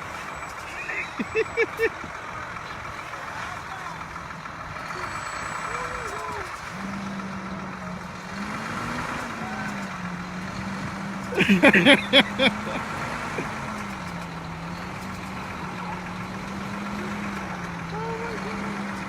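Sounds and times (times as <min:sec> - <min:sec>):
vehicle running hum: 0:00.0 - 0:19.0
voices calling out: 0:00.0 - 0:19.0.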